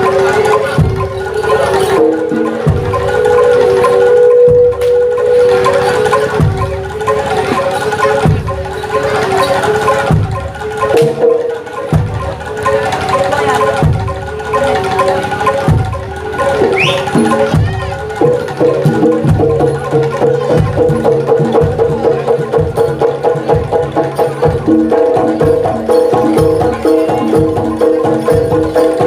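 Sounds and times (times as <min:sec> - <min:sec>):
hand drum strokes: 0:00.0 - 0:29.0
metallophones ringing a melody: 0:00.0 - 0:29.0.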